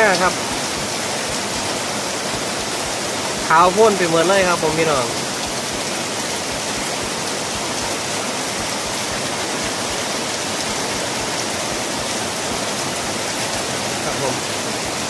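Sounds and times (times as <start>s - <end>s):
heavy rain on vegetation: 0.0s - 15.0s.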